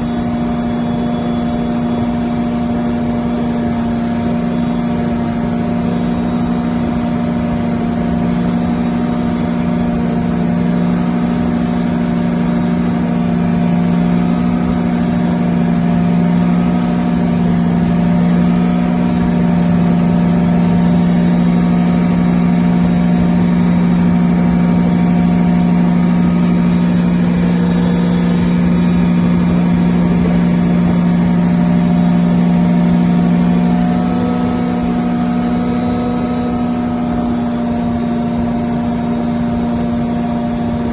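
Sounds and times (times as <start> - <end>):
diesel generator running: 0.0 - 40.9.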